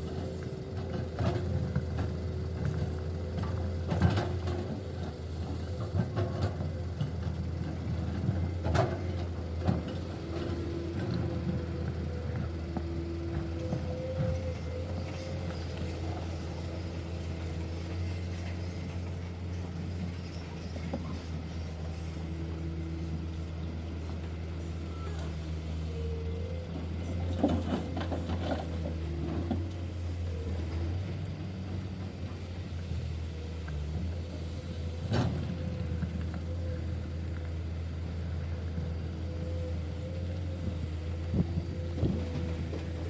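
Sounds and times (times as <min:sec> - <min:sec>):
diesel engines rumbling: 0:00.0 - 0:43.0.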